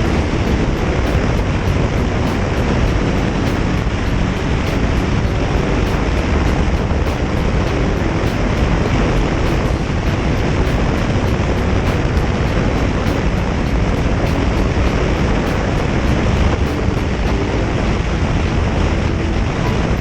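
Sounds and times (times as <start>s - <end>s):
motorcycle engine: 0.0s - 20.0s
wind noise on microphone: 0.0s - 20.0s.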